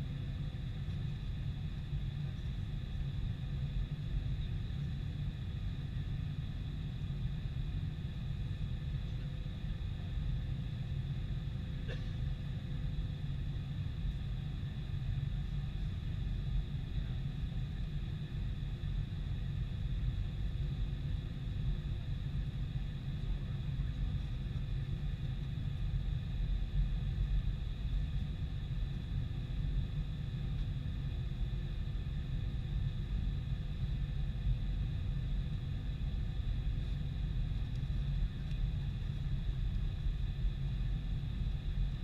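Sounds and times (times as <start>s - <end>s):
jet engine high whine: 0.0s - 42.0s.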